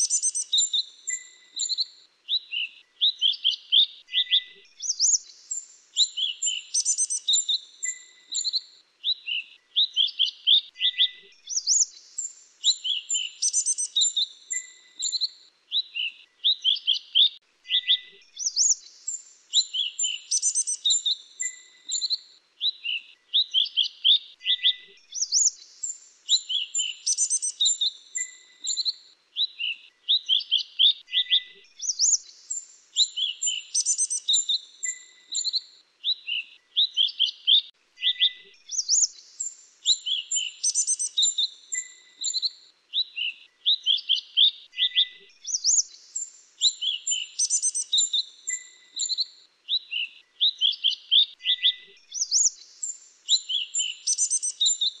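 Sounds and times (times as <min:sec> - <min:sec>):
bird chirps and trills: 0:00.0 - 0:55.0.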